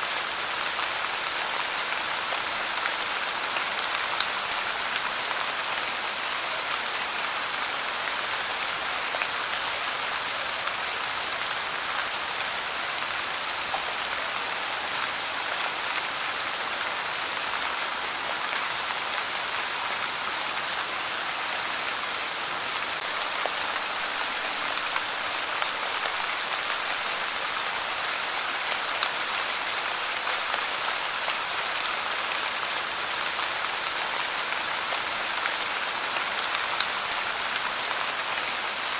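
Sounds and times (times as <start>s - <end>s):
light rain falling: 0.0s - 38.9s.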